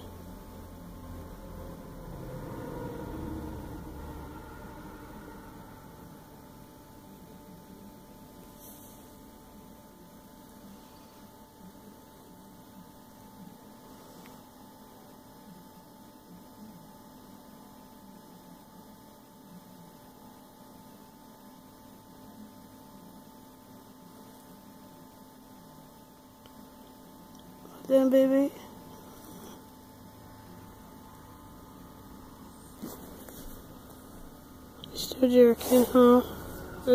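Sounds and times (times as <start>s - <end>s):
faint mains hum: 0.0s - 36.9s
low room noise: 0.0s - 36.9s.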